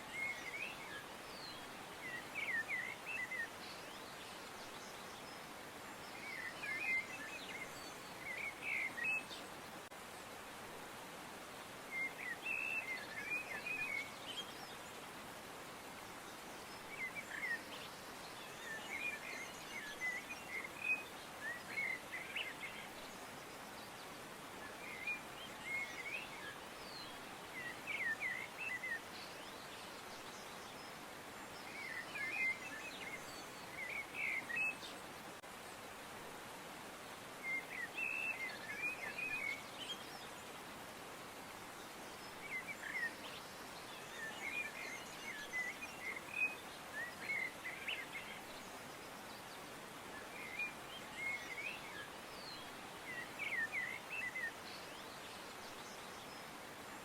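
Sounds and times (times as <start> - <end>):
soft hiss: 0.0 - 57.0.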